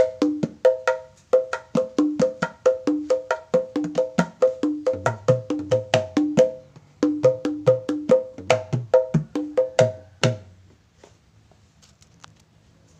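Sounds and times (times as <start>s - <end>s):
hand drumming: 0.0s - 10.5s.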